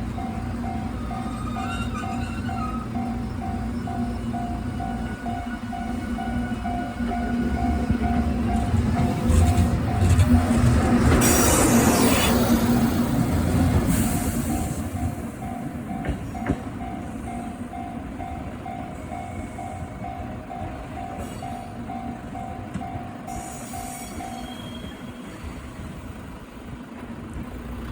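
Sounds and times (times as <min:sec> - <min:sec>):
train rumbling on tracks: 0:00.0 - 0:27.9.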